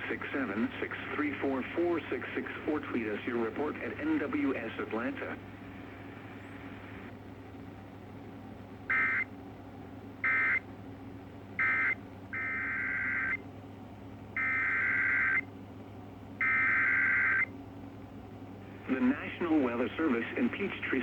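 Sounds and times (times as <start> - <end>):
radio feed hum and hiss: 0.0 - 21.0.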